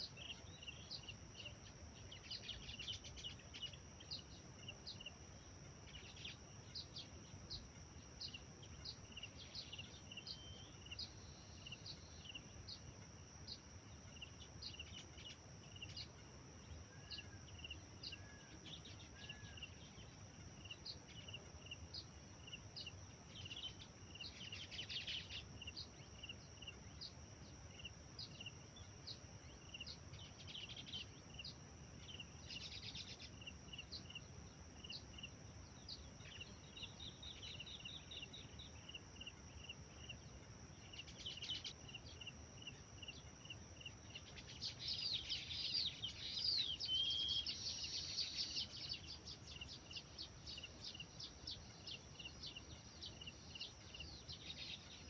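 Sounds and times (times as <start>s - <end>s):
songbirds chirping: 0.0s - 55.0s
steady high hiss: 0.0s - 55.0s.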